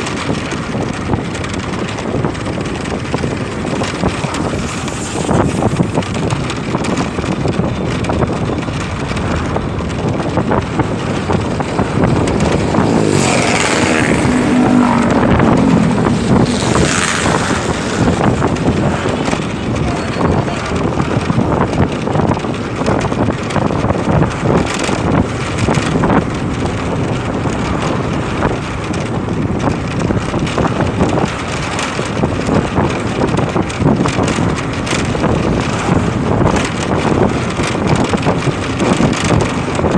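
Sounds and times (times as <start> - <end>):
motorcycle engine: 0.0 - 39.9
road noise: 0.0 - 39.9
wind rushing over microphone: 0.0 - 39.9.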